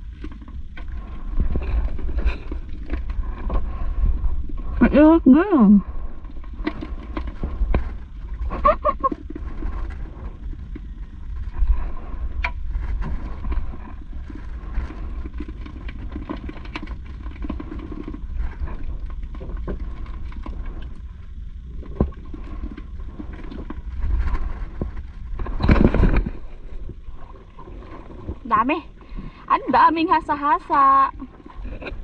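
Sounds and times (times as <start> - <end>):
water lapping at boat: 0.0 - 32.0
wind noise on microphone: 0.0 - 32.0.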